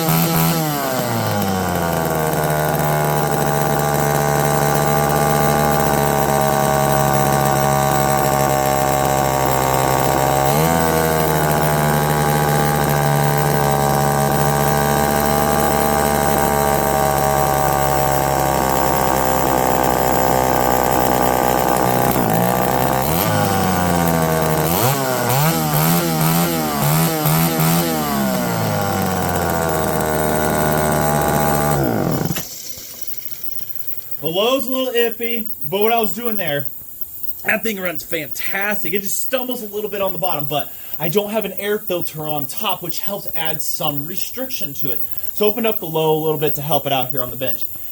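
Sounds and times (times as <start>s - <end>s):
two-stroke chainsaw engine revving: 0.0s - 47.9s.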